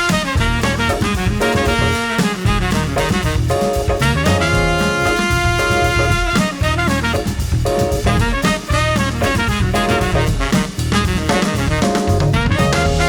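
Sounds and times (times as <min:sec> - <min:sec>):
swing jazz with horns and drums: 0:00.0 - 0:13.0.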